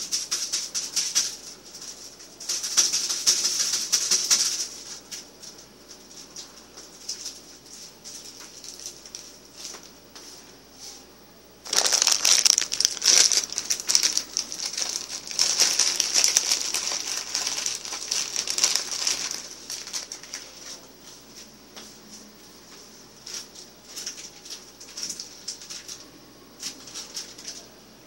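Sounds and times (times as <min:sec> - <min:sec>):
dense crinkling crackling: 0:00.0 - 0:10.0, 0:11.6 - 0:21.5, 0:22.7 - 0:27.7.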